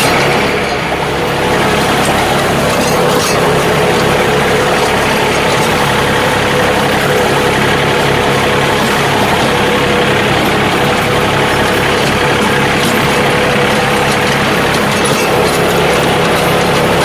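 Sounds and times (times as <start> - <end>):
mechanical whine: 0.0 - 17.0
tractor diesel engine running: 0.0 - 17.0.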